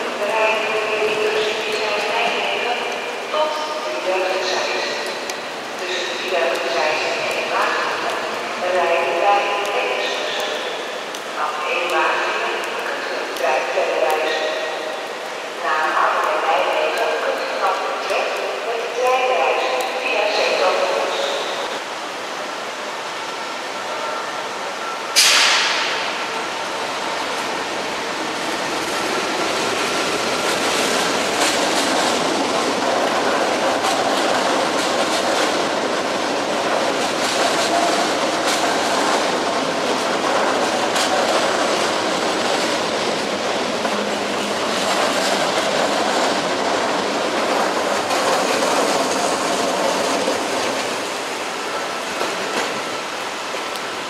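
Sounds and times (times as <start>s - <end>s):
electric train rumbling past: 0.0s - 54.0s.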